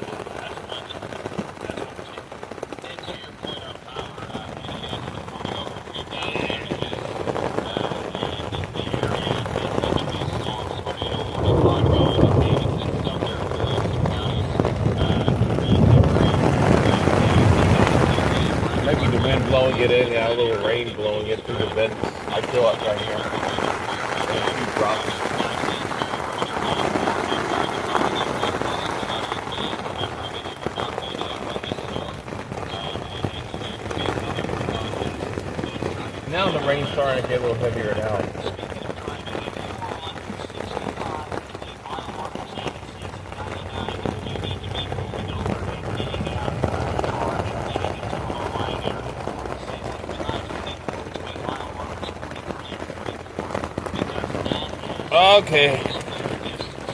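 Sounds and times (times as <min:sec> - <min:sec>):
low rush: 0:00.0 - 0:56.9
rain pattering on tent fabric: 0:00.0 - 0:56.9.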